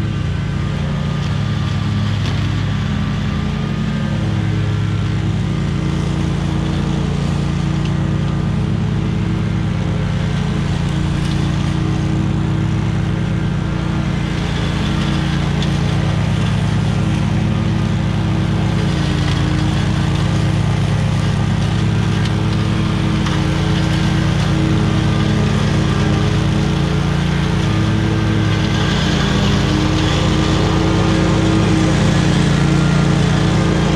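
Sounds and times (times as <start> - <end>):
mower engine running steadily: 0.0 - 33.9.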